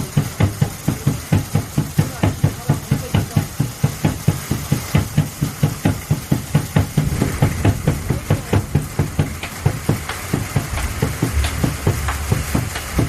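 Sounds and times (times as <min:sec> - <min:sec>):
drum beating fast rhythm: 0:00.0 - 0:13.0
rain hissing: 0:00.0 - 0:13.0.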